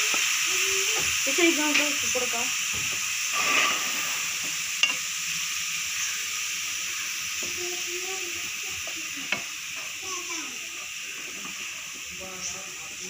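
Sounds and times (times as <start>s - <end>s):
tomatoes sizzling in frying pan: 0.0s - 13.0s.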